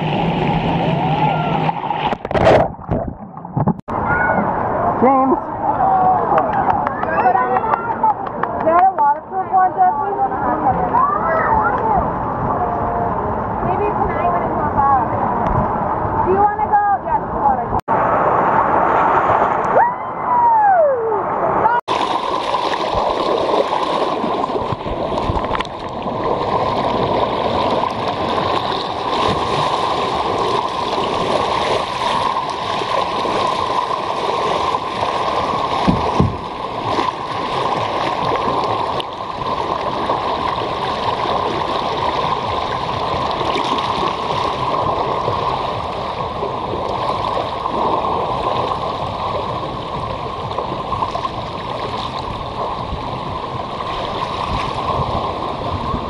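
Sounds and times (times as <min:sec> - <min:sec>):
water rushing down a slide: 0:00.0 - 0:08.9, 0:17.9 - 0:56.0.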